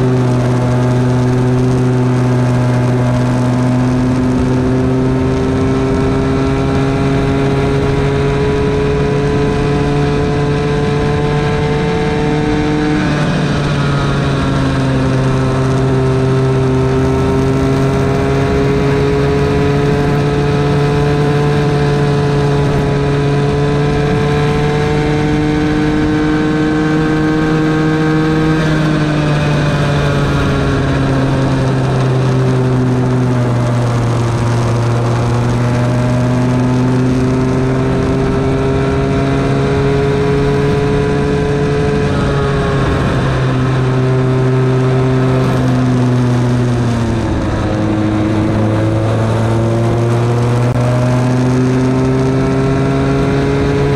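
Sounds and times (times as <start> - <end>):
go-kart engine running hard: 0.0 - 53.9.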